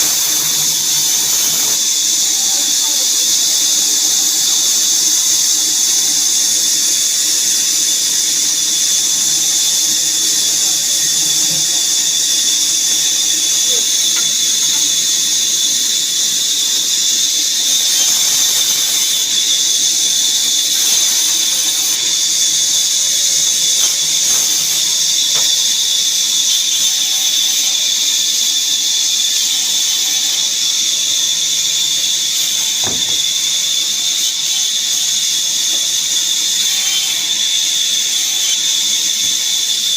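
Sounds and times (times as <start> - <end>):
woodworking saw whining: 0.0 - 39.9.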